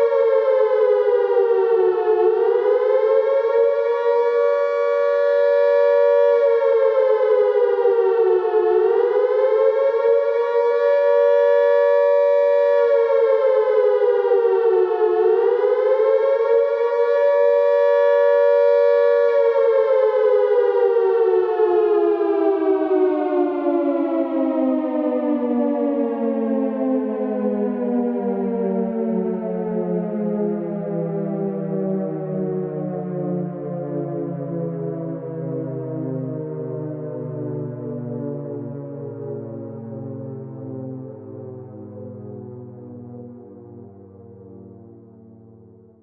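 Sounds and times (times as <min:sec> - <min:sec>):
air raid siren wailing: 0:00.0 - 0:46.0.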